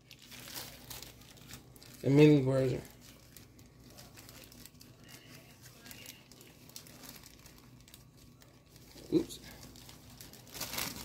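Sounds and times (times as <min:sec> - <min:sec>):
plastic package crinkling: 0:00.0 - 0:11.0.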